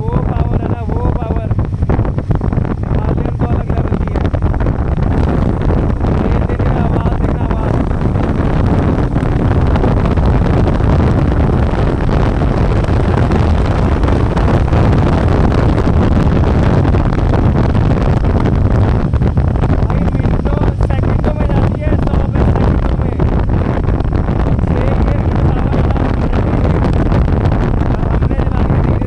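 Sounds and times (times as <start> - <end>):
motorcycle engine running: 0.0 - 29.0
wind noise on microphone: 0.0 - 29.0.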